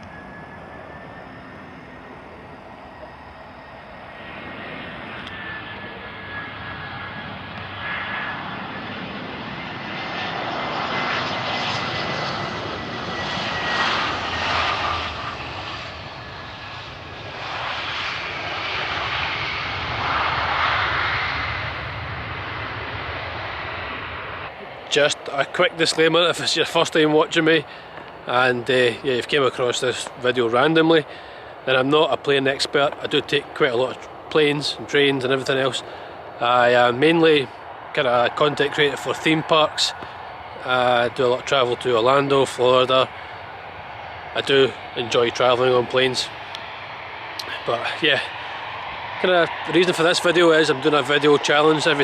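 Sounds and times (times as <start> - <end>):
high engine whine: 0.0 - 52.0
jet engines roaring: 0.0 - 52.0.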